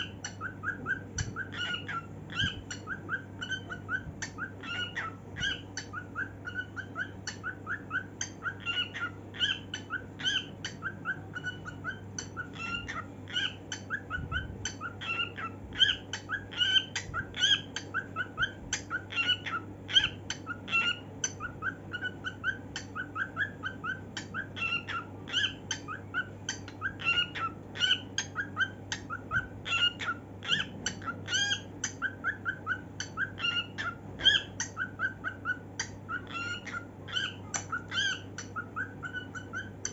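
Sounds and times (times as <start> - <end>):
cockatiel chirping: 0.0 - 39.9
steady low hum: 0.0 - 39.9.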